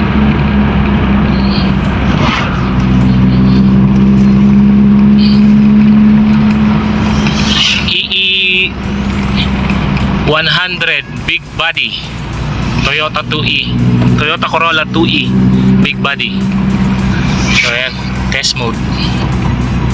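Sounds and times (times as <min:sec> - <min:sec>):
car engine drone: 0:00.0 - 0:19.9.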